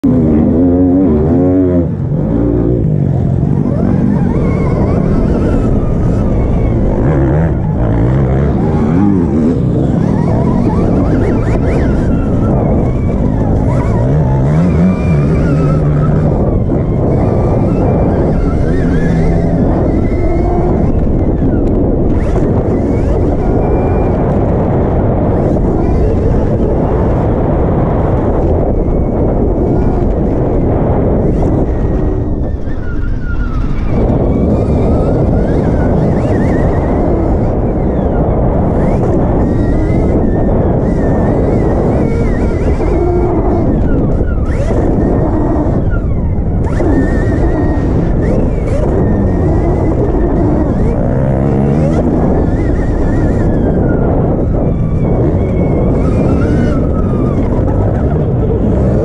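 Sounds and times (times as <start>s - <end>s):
electric motor whine: 0.0s - 59.0s
wind rush and ride rumble: 0.0s - 59.0s.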